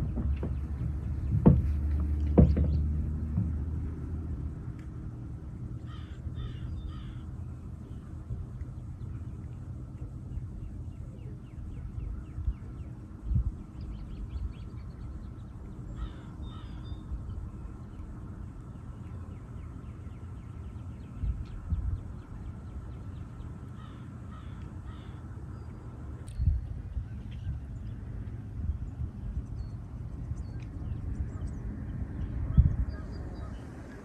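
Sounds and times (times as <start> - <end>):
wind rumble on microphone: 0.0 - 34.0
birds chipping and calling: 5.8 - 34.0.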